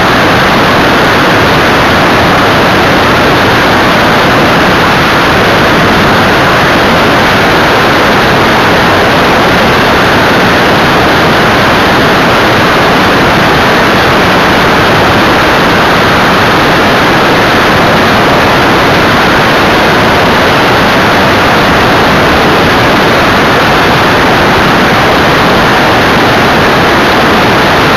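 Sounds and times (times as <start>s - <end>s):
wind rushing over camera: 0.0s - 27.9s.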